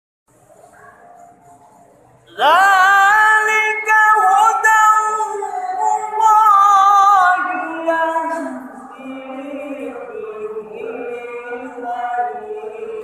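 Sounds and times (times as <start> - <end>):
man chanting melismatically: 2.3 - 13.0.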